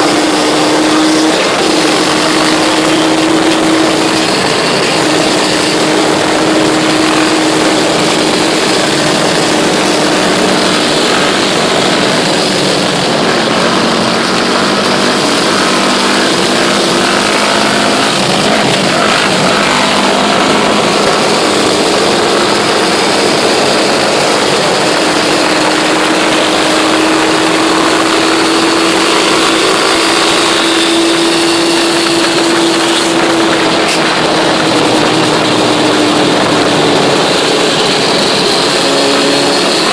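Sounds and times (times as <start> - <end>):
quad bike engine running: 0.0 - 39.9
rushing noise: 0.0 - 39.9.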